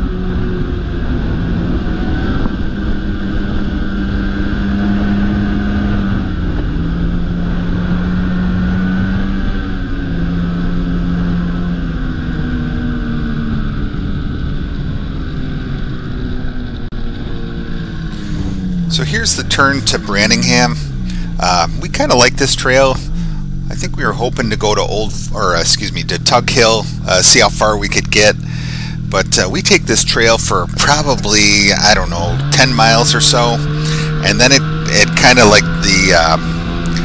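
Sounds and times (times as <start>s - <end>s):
noisy rush of riding: 0.0s - 37.0s
snowmobile engine running: 0.0s - 37.0s.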